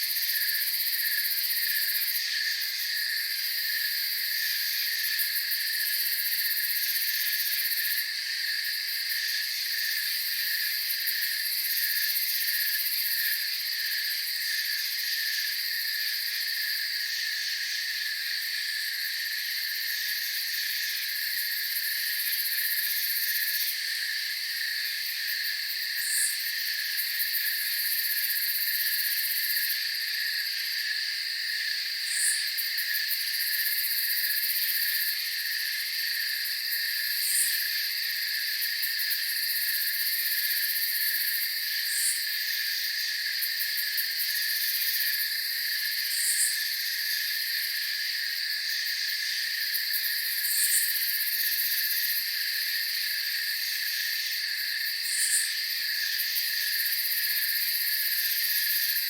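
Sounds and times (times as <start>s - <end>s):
crickets trilling: 0.0s - 59.0s
lower pulsing insect song: 0.0s - 59.0s.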